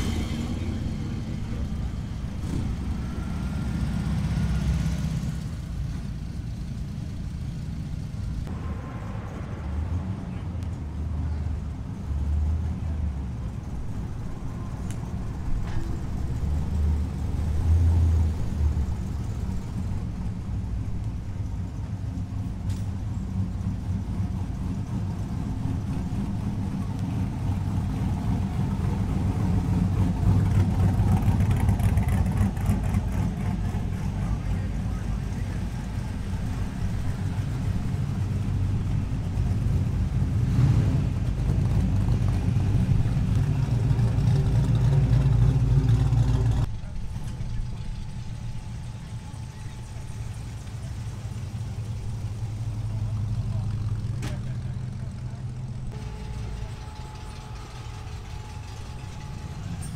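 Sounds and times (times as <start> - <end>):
car engines rumbling: 0.0 - 59.9.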